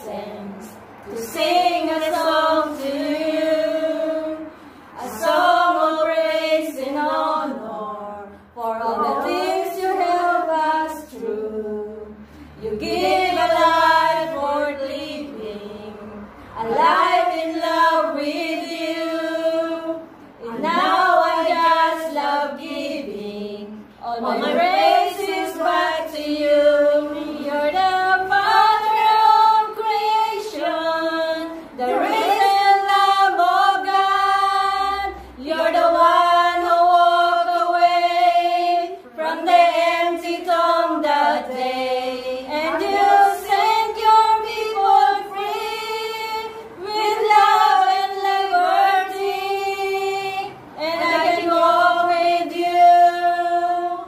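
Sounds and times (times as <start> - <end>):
women singing without accompaniment: 0.0 - 54.0.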